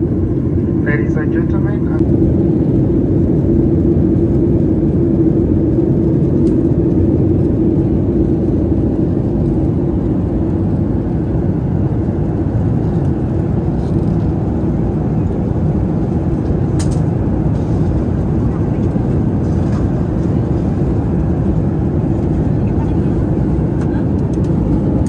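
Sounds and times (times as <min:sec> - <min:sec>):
jet engines droning: 0:00.0 - 0:25.0
steady hum: 0:00.0 - 0:25.0.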